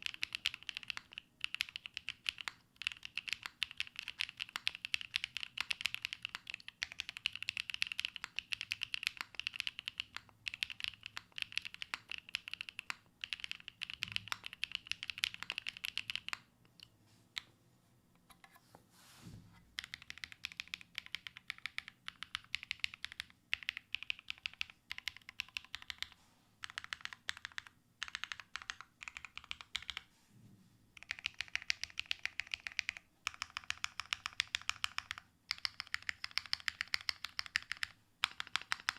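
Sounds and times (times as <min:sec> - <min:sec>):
mechanical keyboard typing: 0:00.0 - 0:17.5, 0:19.8 - 0:30.1, 0:31.0 - 0:38.9.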